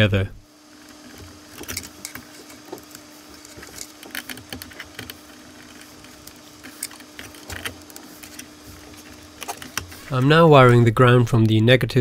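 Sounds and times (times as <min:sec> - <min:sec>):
faint steady hum: 0:00.0 - 0:12.0
small clicks and rustles of wires: 0:00.7 - 0:10.4.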